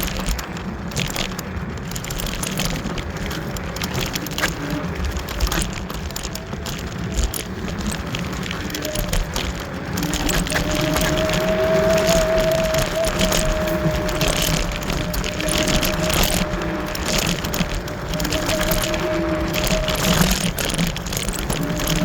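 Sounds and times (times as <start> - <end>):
tyres rumbling on dirt: 0.0 - 22.0
wind: 0.0 - 22.0.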